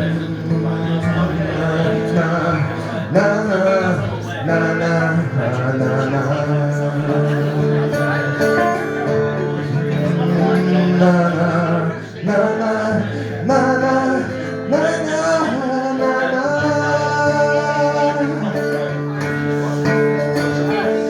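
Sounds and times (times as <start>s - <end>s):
guitar accompaniment: 0.0s - 21.0s
man singing: 0.0s - 21.0s.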